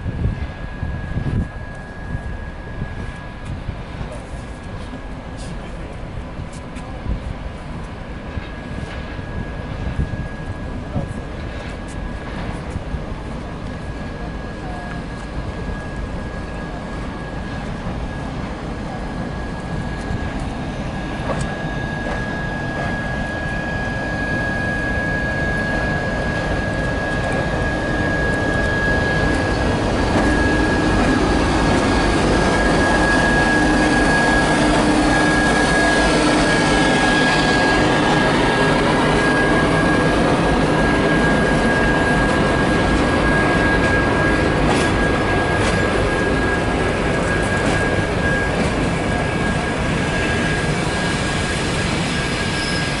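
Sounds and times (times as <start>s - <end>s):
high steady whine: 0.0s - 53.0s
train rolling by: 0.0s - 53.0s.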